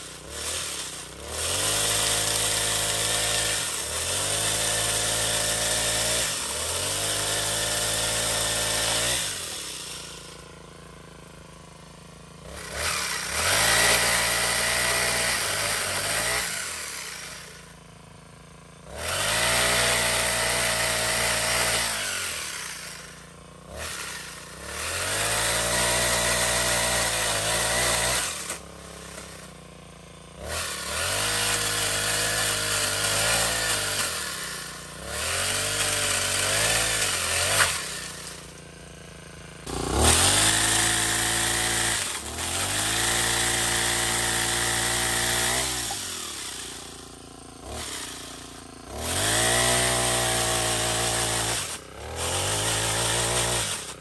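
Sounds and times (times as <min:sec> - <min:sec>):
chainsaw chain cutting branch: 0:00.0 - 0:10.9, 0:12.0 - 0:17.8, 0:18.8 - 0:54.0
brush cutter engine revving: 0:00.0 - 0:54.0.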